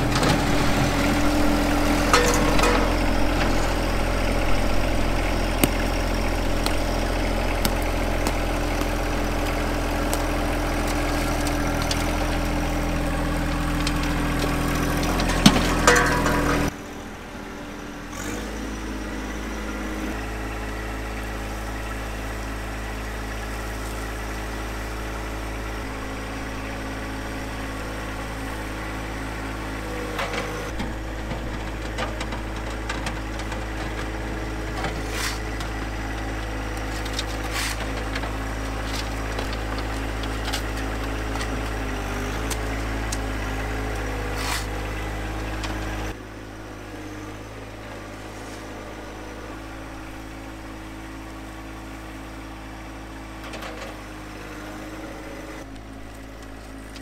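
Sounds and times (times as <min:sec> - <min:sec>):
loader bucket clanks: 0:00.0 - 0:16.8, 0:23.3 - 0:46.2, 0:46.9 - 0:57.0
tractor diesel engine running: 0:00.0 - 0:57.0.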